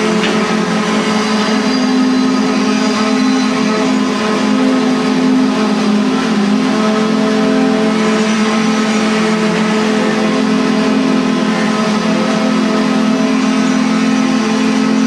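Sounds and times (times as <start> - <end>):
machine droning: 0.0 - 15.0.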